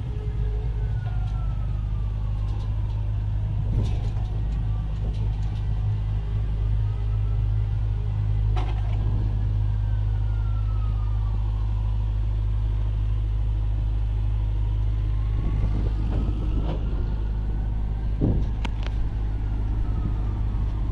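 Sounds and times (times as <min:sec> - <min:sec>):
truck engine rumble: 0:00.0 - 0:20.9.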